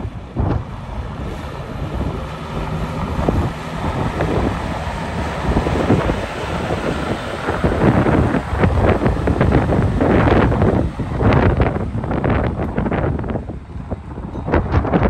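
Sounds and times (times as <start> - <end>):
truck engine passing: 0.0 - 15.0
wind buffeting microphone: 0.0 - 15.0.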